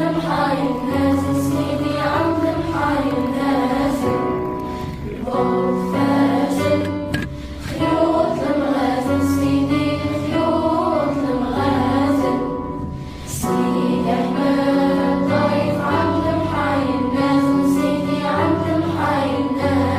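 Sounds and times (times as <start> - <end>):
choir-like voices holding notes: 0.0 - 19.9.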